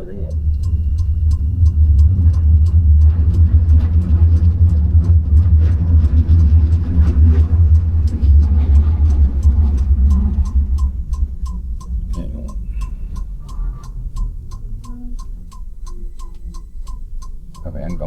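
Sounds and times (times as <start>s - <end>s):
faint regular ticking: 0.0s - 18.0s
tram rumbling along track: 0.0s - 18.0s.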